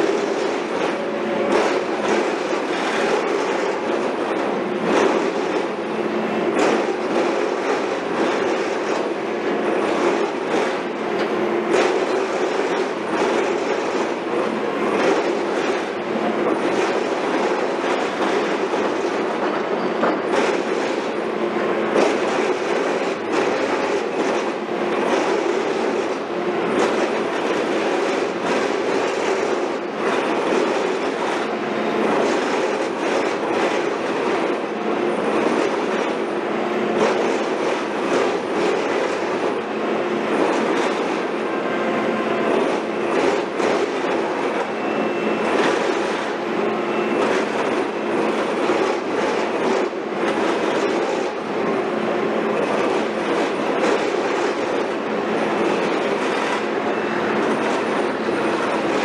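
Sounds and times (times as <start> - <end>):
heavy machinery clattering: 0.0 - 59.0.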